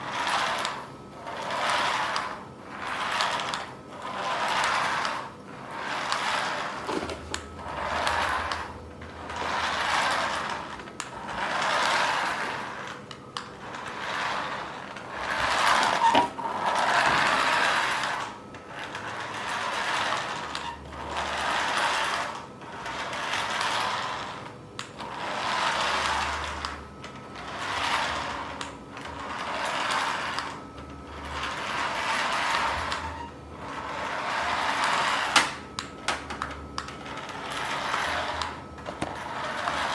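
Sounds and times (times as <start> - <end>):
toy car motor whirring: 0.0 - 26.8, 27.4 - 35.6.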